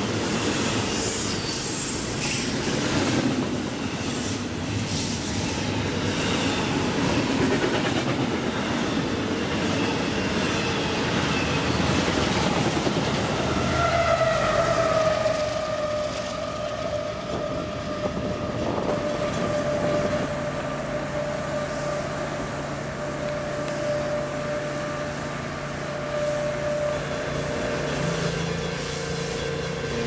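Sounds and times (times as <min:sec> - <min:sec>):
freight train running past: 0:00.0 - 0:30.0.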